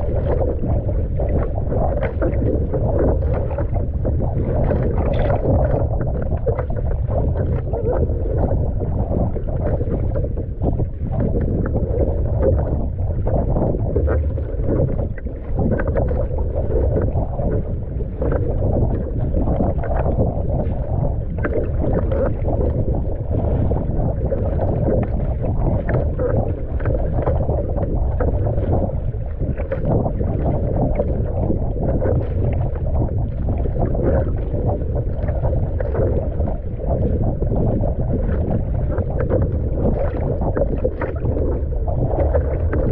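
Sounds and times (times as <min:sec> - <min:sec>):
water slapping against hull: 0:00.0 - 0:42.9
wind rumbling on microphone: 0:00.0 - 0:42.9.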